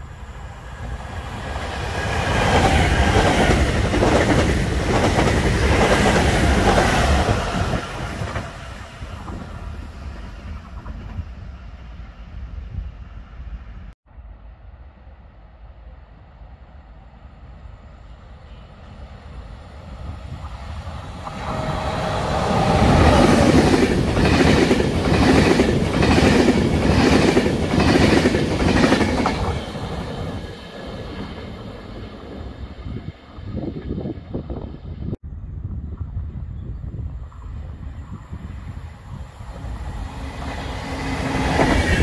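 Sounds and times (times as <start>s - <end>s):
electric train passing: 0.0s - 42.0s.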